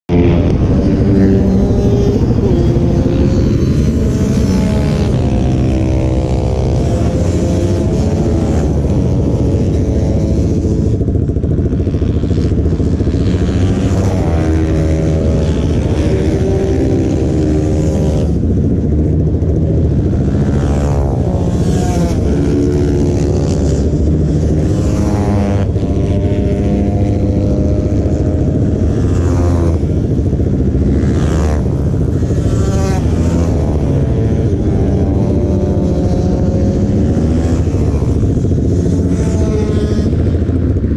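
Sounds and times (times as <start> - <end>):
motorcycle engines idling: 0.1 - 40.9
motorcycle throttle blips: 0.1 - 40.9.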